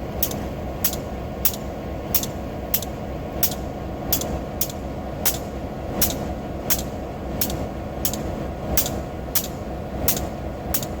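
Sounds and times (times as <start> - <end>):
freight train rumble: 0.0 - 11.0
wheels clicking over rail joints: 0.2 - 11.0.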